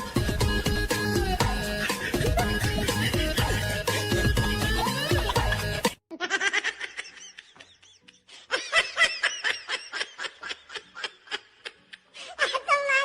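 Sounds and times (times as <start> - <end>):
background music: 0.0 - 13.0
person laughing: 1.5 - 12.7.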